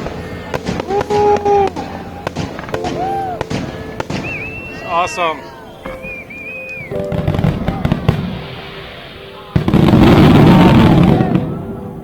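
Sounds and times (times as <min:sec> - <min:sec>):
loud firework burst: 0:00.0 - 0:05.0, 0:06.8 - 0:12.0
fireworks crackling: 0:00.0 - 0:12.0.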